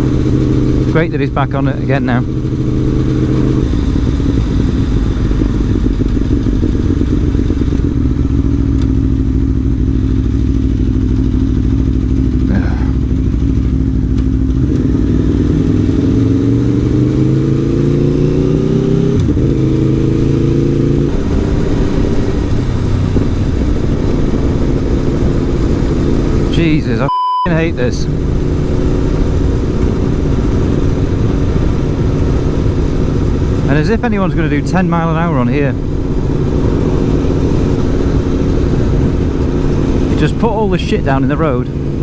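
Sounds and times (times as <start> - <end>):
motorcycle engine revving: 0.0 - 27.0, 27.6 - 42.0.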